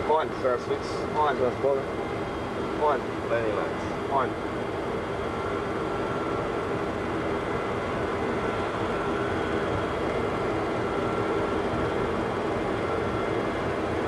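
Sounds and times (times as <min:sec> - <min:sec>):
faint steady whine: 0:00.0 - 0:14.0
jet engines rumbling: 0:00.0 - 0:14.0.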